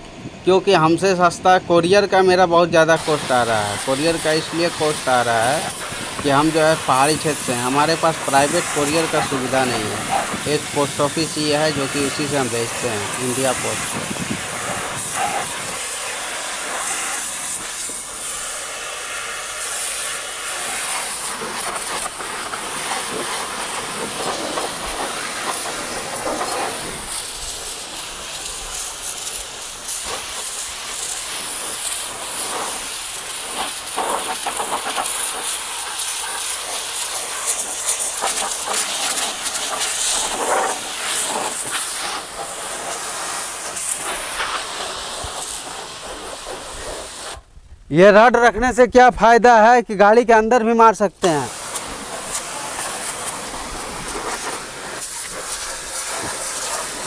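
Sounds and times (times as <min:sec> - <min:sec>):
high-pressure water spray hissing: 0:00.7 - 0:47.5, 0:50.9 - 0:57.0.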